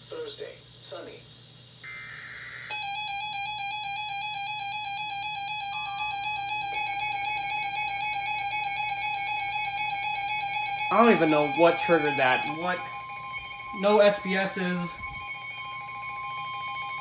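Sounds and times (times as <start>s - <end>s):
harsh two-tone alarm: 1.8s - 17.0s
high buzz: 1.8s - 17.0s.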